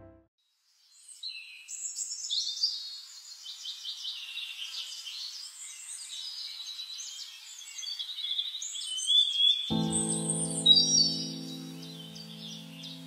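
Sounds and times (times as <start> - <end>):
small birds chirping and twittering: 0.7 - 13.0.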